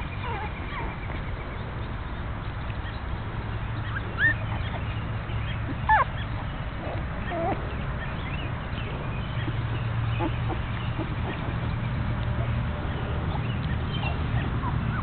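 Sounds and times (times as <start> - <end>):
puppies squeaking and whimpering: 0.0 - 1.2, 3.8 - 15.0.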